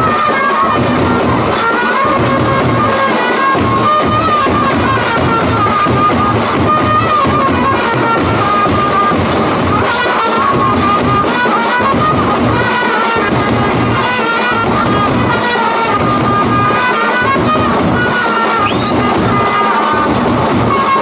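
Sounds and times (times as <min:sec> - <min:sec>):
bass drum and side drums: 0:00.0 - 0:21.0
trumpets playing melody: 0:00.0 - 0:21.0.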